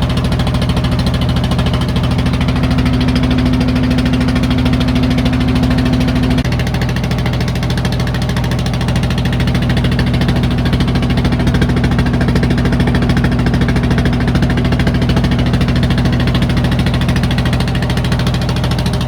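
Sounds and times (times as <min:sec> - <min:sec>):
small boat engine droning: 0:00.0 - 0:19.0.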